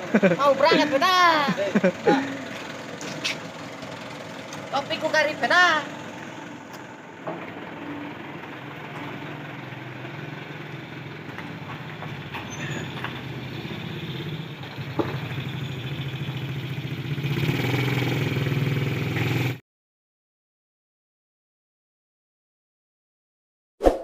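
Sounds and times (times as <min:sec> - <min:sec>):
truck engines driving off: 0:00.0 - 0:19.6.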